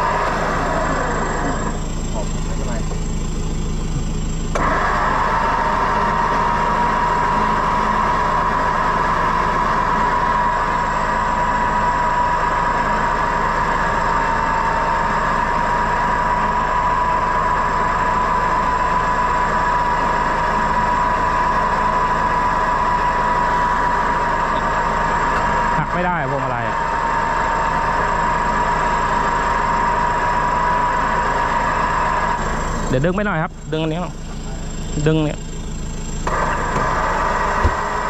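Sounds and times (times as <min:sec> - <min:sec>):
high-pitched whine: 0:00.0 - 0:38.0
truck engine running: 0:00.0 - 0:38.0.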